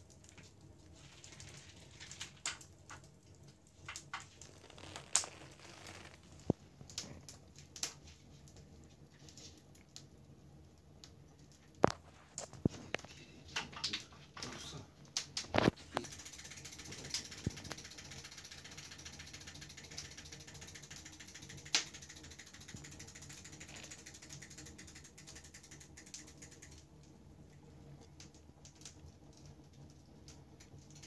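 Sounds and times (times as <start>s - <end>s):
fast crackle of fine ticks: 0.0s - 13.2s, 13.8s - 31.0s.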